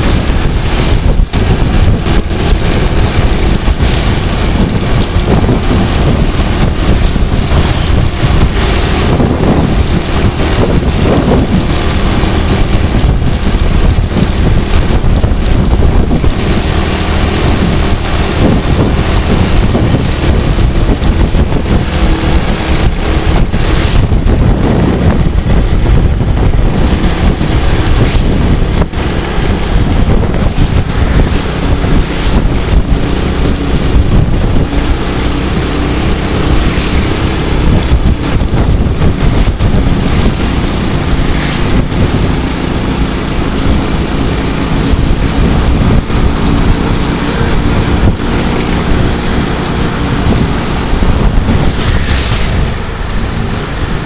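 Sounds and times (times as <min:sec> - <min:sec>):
vehicle engine and road noise: 0:00.0 - 0:54.0
wind buffeting microphone: 0:00.0 - 0:54.0.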